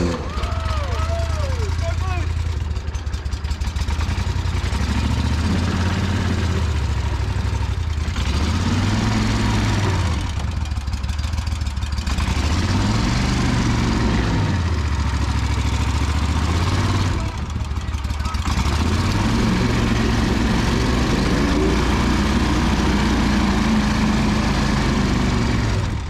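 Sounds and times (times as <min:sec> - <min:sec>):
boat motor revving: 0:00.0 - 0:02.8, 0:03.6 - 0:10.6, 0:12.0 - 0:26.0.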